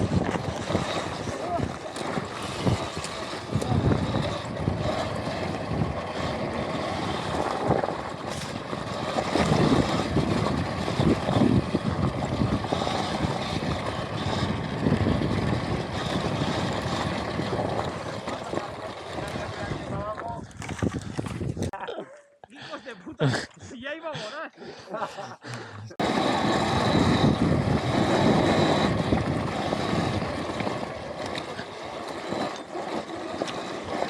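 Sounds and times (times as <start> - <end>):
low rumbles from rough ground: 0.0 - 21.8, 26.0 - 34.0
steady rush of riding: 0.0 - 21.8, 24.3 - 34.0
wind buffeting microphone: 0.0 - 21.8, 26.0 - 34.0.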